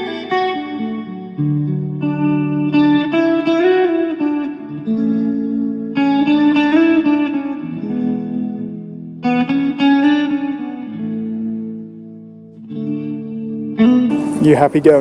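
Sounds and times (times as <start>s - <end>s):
sliding melody over low notes: 0.0s - 15.0s.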